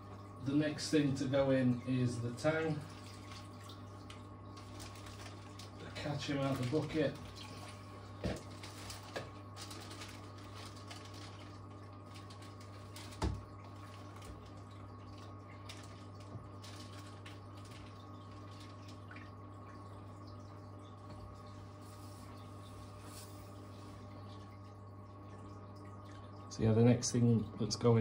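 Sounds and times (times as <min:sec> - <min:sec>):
aquarium pumps humming: 0:00.0 - 0:28.0
small water splashes: 0:01.5 - 0:26.6.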